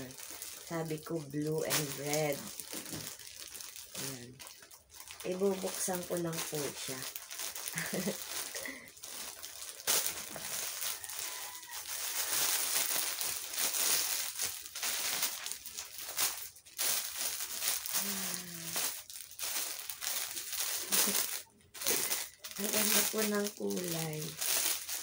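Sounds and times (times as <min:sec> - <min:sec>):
plastic packaging rustling: 0:00.0 - 0:25.0.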